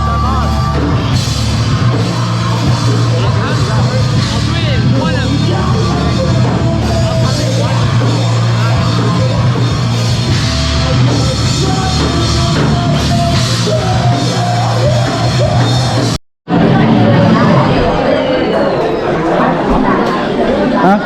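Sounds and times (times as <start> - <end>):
drum kit: 0.0 - 18.0
heavy rock band playing: 0.0 - 18.3.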